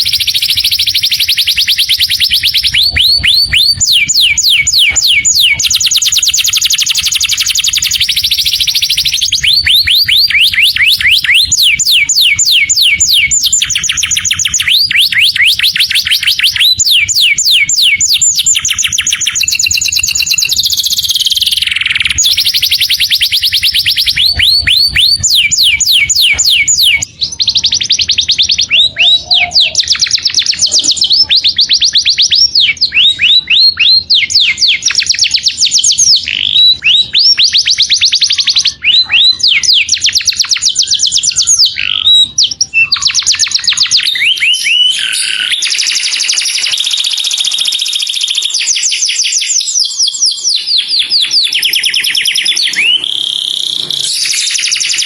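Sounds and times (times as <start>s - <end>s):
canary singing in rapid trills: 0.0s - 55.0s.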